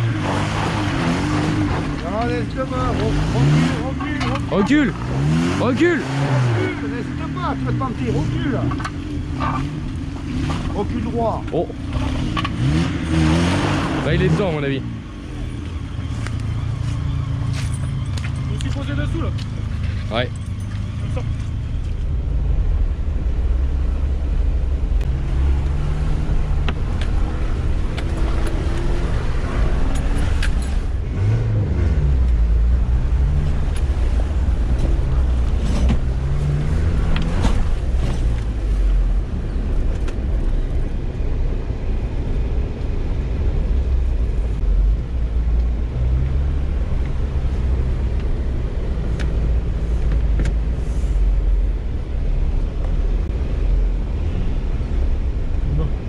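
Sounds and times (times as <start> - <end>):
car engine rumbling from inside: 0.0 - 56.0.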